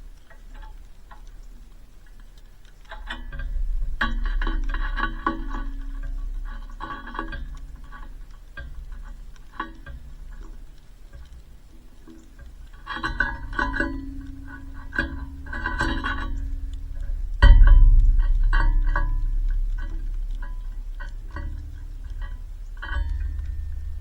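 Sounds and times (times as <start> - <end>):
light plucked notes: 0.0 - 24.0
low held bass notes: 3.0 - 24.0.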